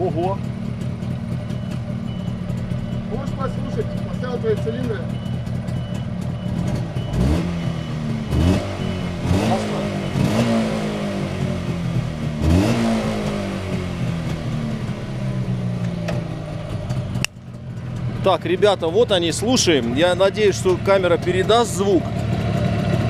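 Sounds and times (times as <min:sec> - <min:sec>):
engine throttle blips: 0:00.0 - 0:23.0
motorcycle engine idling: 0:00.0 - 0:23.0.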